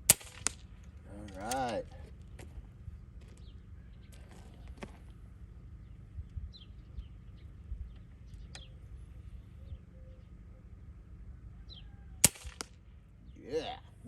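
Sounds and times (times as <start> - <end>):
small birds chirping: 0.9 - 12.2, 13.0 - 14.0.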